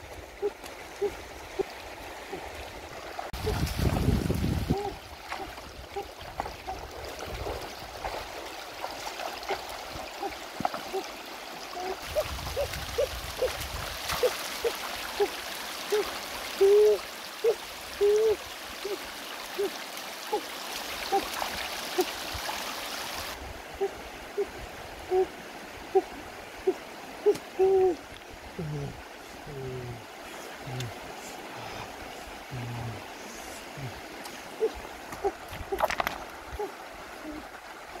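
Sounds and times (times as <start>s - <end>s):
river rushing over stones: 0.0s - 38.0s.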